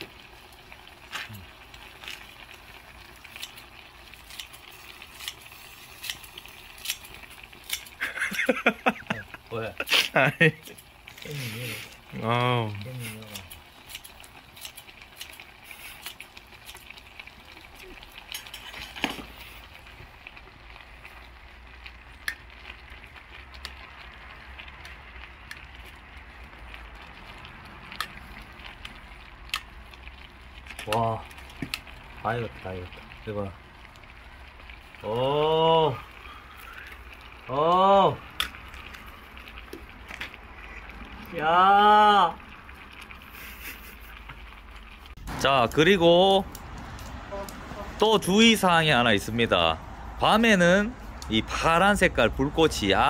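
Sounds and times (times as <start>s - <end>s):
boiling pot sizzling hiss: 0.0s - 53.0s
burning fuel crackling: 0.0s - 53.0s
low flame rumble: 0.0s - 53.0s.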